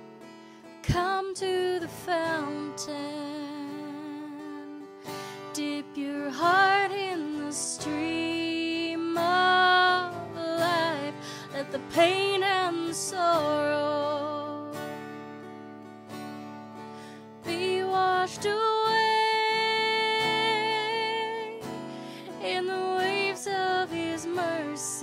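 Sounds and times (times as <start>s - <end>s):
strummed acoustic guitar: 0.0s - 25.0s
woman singing worship song: 0.8s - 4.7s, 5.4s - 14.8s, 17.5s - 25.0s.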